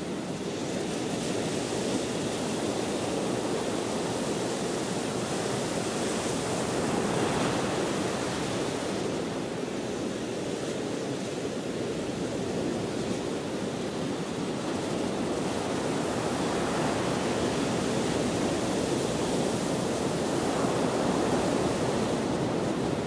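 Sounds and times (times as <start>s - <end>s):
ocean surf washing ashore: 0.0s - 23.0s.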